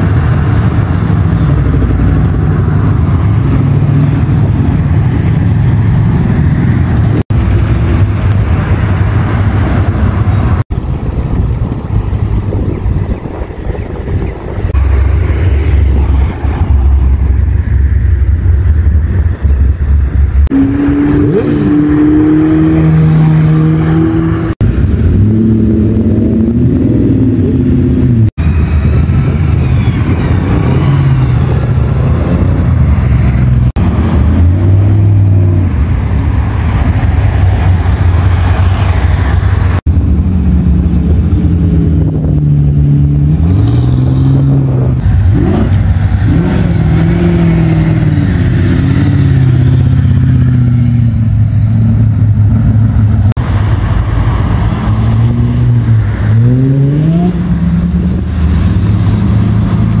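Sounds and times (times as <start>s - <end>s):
car engines idling and revving: 0.0s - 60.0s.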